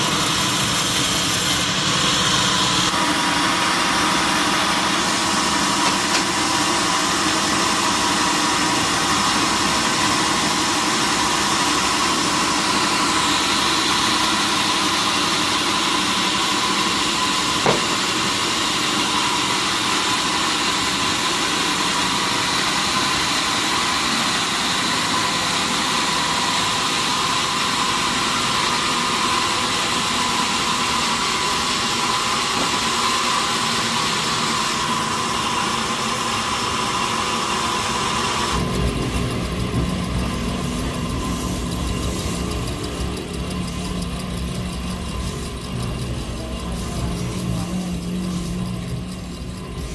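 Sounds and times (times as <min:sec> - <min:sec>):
sawmill machinery whining: 0:00.0 - 0:49.9.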